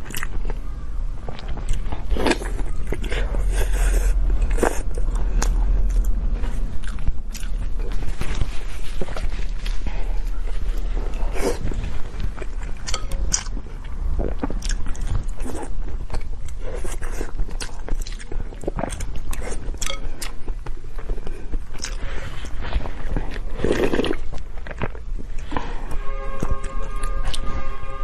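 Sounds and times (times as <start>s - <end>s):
steady low hum: 0.0s - 28.0s
person chewing and biting food: 1.2s - 25.7s.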